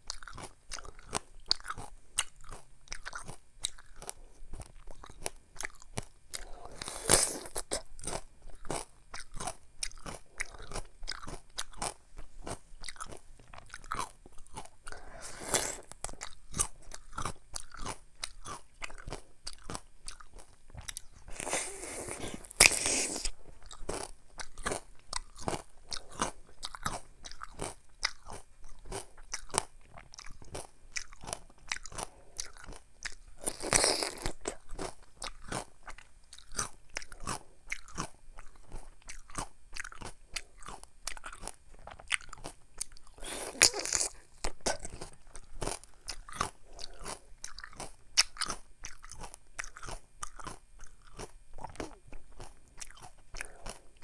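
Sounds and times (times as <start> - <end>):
crunching bites and chewing: 0.0 - 54.0.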